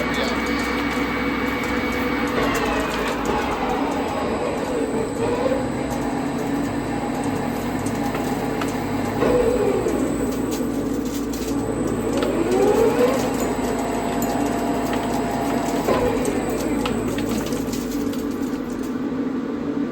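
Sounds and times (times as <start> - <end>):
whining tone sliding in pitch: 0.0 - 10.6, 11.8 - 17.4
lathe humming and rattling: 0.0 - 19.9.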